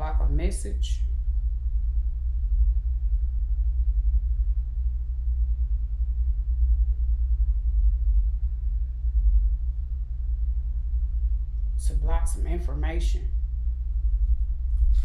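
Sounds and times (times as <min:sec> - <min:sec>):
low fluttering rumble: 0:00.0 - 0:15.0.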